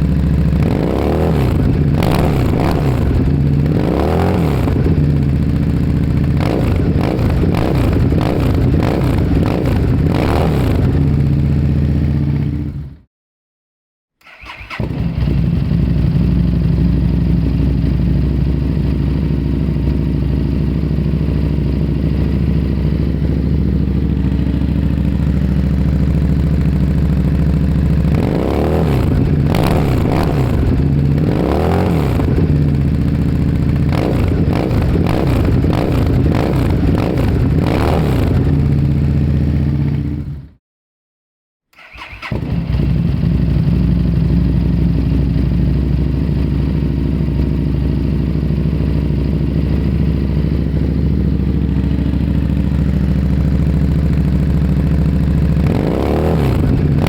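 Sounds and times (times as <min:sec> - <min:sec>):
motorcycle engine revving: 0:00.0 - 0:13.0, 0:14.2 - 0:40.6, 0:41.8 - 0:57.0.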